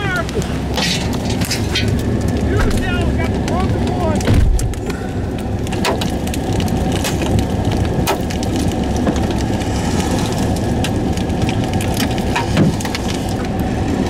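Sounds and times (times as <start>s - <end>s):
hailstones knocking on vehicle: 0.0s - 14.0s
low wind rumble: 0.0s - 14.0s.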